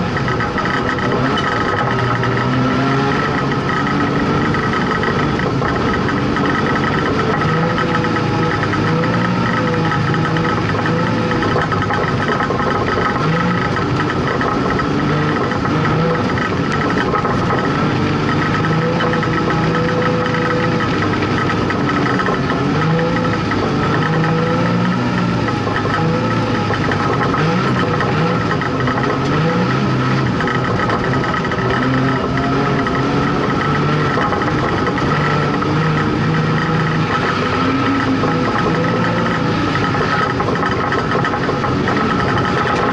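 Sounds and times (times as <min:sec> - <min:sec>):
race car engine running hard: 0:00.0 - 0:42.9.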